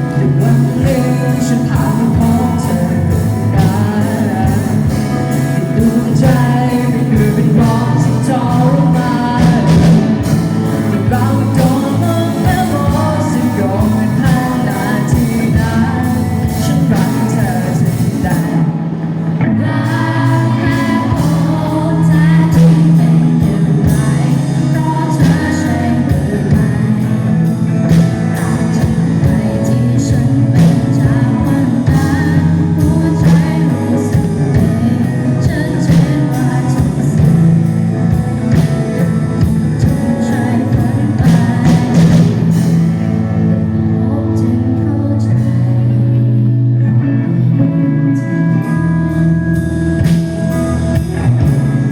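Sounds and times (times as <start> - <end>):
person singing: 0.0 - 51.9
pop-rock band playing: 0.0 - 51.9.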